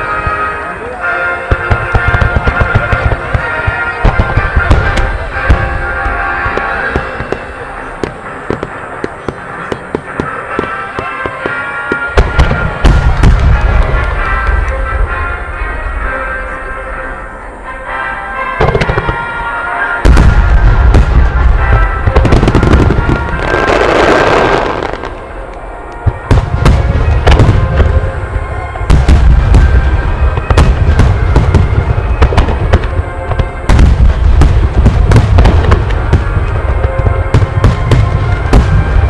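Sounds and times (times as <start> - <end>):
fireworks booming and cracking: 0.0 - 39.0.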